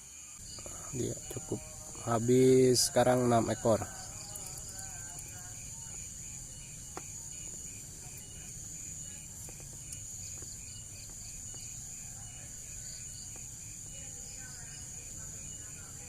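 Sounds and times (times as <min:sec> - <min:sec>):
insect high trill: 0:00.0 - 0:16.0
pulsed insect chirp: 0:00.0 - 0:16.0.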